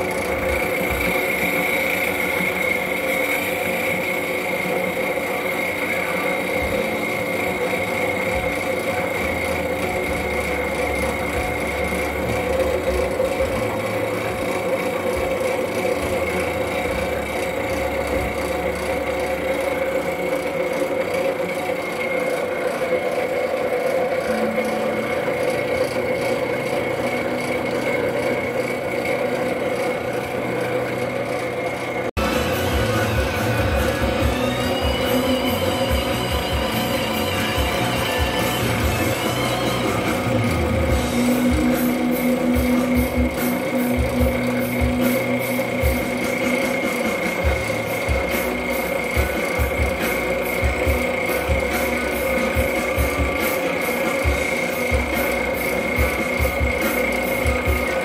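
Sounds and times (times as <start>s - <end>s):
lathe gear whine: 0.0s - 58.0s.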